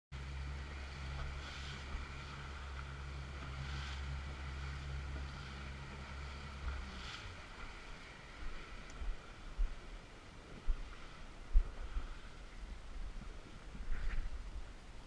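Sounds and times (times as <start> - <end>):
boat motor humming: 0.1 - 15.0
water rushing along hull: 0.2 - 15.0
wind noise: 0.5 - 15.0.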